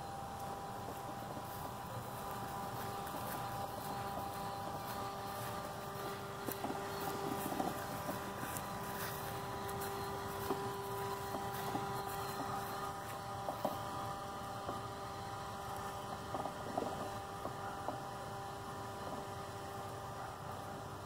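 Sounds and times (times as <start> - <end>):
robotic mower motor whine: 0.0 - 21.0.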